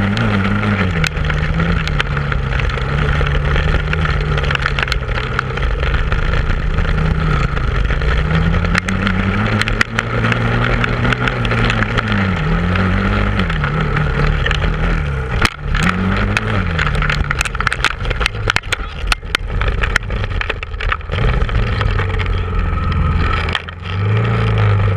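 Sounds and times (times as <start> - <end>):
knocks and rattles: 0.0 - 24.9
quad bike engine revving: 0.0 - 24.9.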